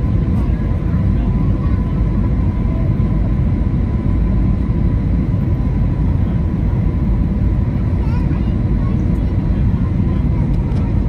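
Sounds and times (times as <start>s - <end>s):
aircraft engine and airflow roar: 0.0s - 11.0s.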